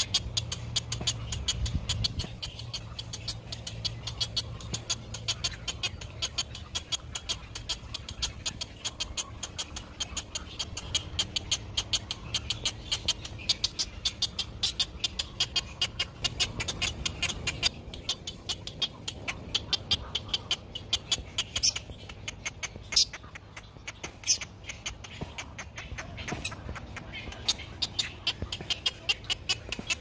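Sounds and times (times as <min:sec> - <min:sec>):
bird nestlings ticking calls: 0:00.0 - 0:30.0.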